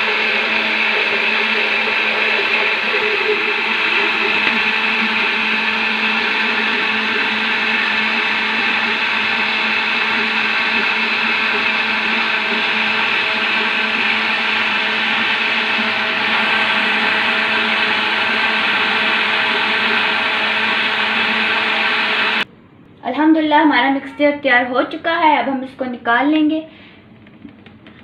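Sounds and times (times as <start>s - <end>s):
blender running: 0.0s - 22.5s.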